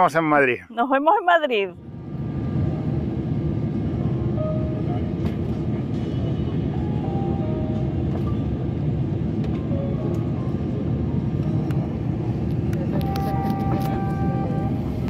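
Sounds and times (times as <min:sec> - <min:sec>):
vehicle interior rumble and hiss: 0:02.0 - 0:15.0.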